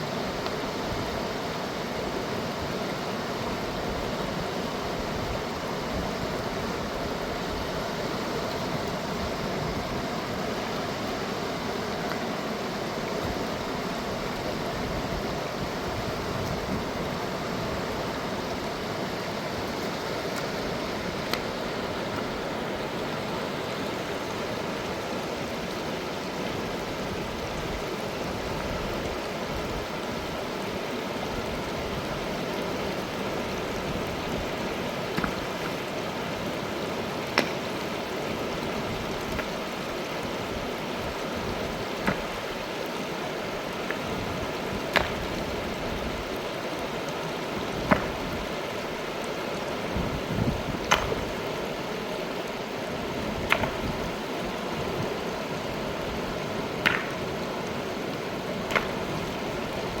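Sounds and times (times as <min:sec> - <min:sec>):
mountain river rushing: 0:00.0 - 1:00.0.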